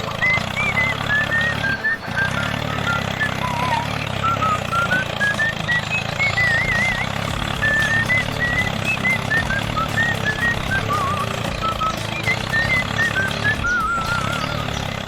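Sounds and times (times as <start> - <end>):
toy engine rumble: 0.0 - 15.0
whistle-like tune: 0.0 - 15.0.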